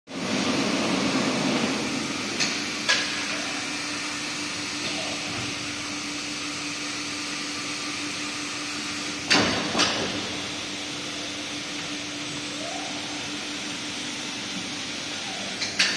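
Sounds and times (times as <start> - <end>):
machine hum: 0.2 - 15.9.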